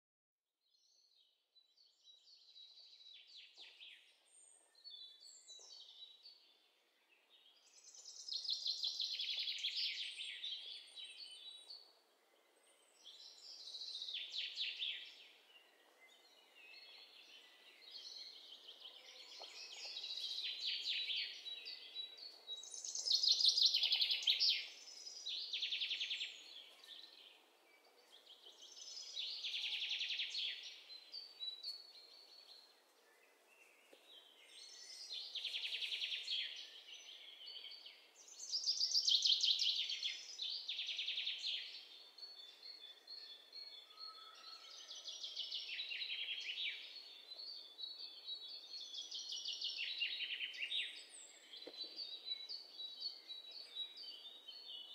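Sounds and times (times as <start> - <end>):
birds chirping and trilling: 2.0 - 54.9.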